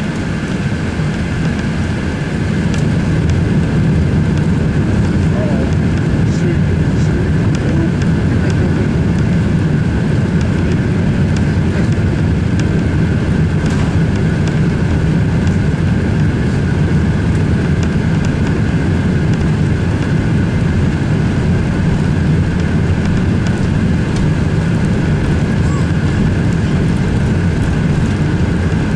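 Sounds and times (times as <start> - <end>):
high-pitched engine hum: 0.0 - 28.9
jet engines rumbling: 0.0 - 28.9.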